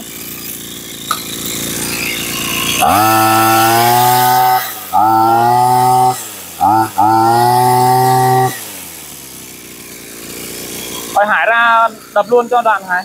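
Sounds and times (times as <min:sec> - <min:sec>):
brushcutter engine revving: 0:00.0 - 0:13.0.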